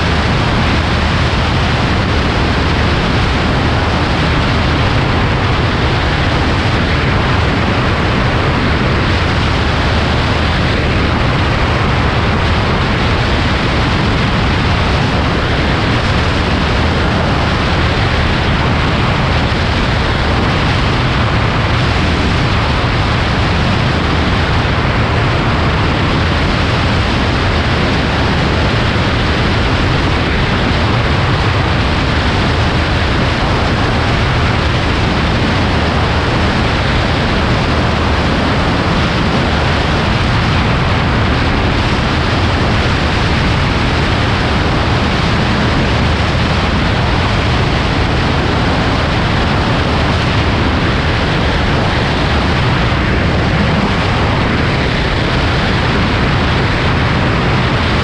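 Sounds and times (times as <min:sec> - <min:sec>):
light aircraft in flight: 0:00.0 - 0:58.0.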